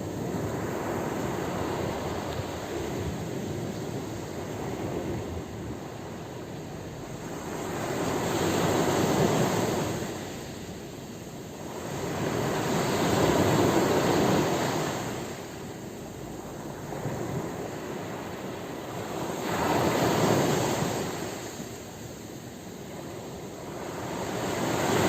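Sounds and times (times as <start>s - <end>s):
sea waves washing on shore: 0.0s - 25.0s.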